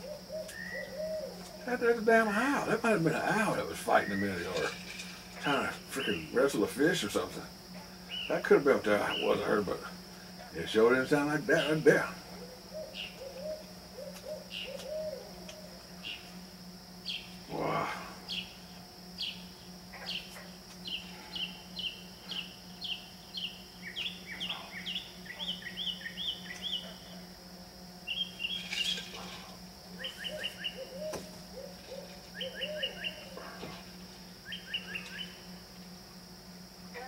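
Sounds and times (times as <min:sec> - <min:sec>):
mockingbird singing: 0:00.0 - 0:06.9, 0:08.0 - 0:10.0, 0:10.7 - 0:16.4, 0:17.0 - 0:17.4, 0:18.2 - 0:27.2, 0:28.0 - 0:33.8, 0:34.4 - 0:35.6.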